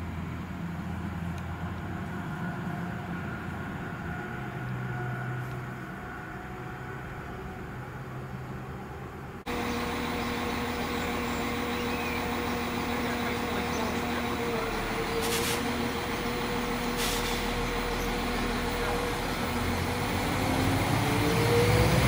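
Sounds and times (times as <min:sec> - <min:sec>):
diesel engines idling: 0:00.0 - 0:22.0
distant train drone: 0:00.0 - 0:22.0.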